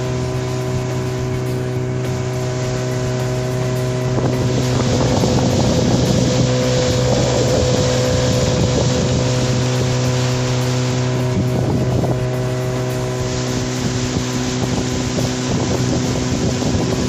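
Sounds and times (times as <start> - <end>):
boat motor running: 0.0 - 17.0
rough rushing water noise: 0.0 - 17.0.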